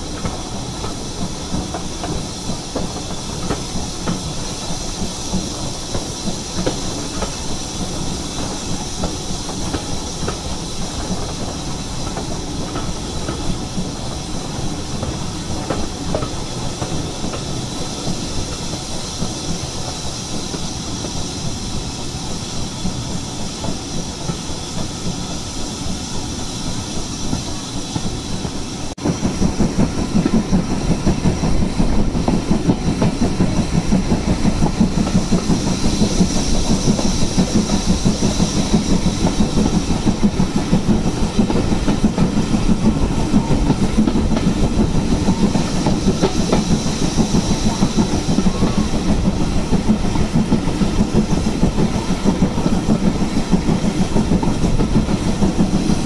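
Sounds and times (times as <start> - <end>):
steam hissing: 0.0 - 56.0
train wheels clattering over rail joints: 0.0 - 56.0.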